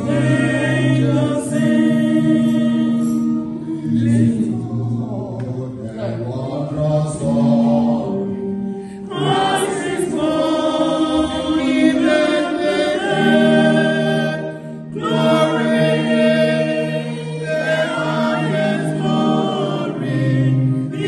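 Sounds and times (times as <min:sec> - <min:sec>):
choir singing a hymn: 0:00.0 - 0:21.0.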